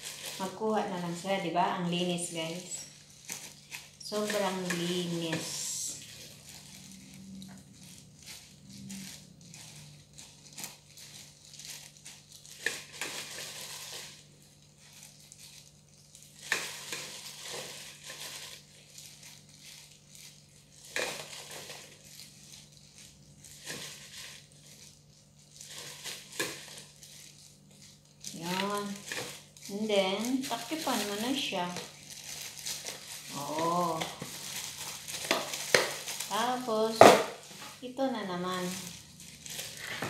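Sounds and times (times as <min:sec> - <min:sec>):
leafy greens rustling: 0:00.0 - 0:40.0
plastic gloves crinkling: 0:00.0 - 0:40.0.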